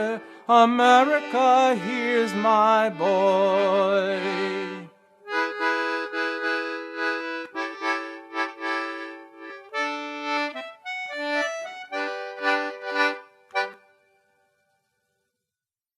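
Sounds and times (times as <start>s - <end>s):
acoustic instrumental music: 0.0s - 15.3s.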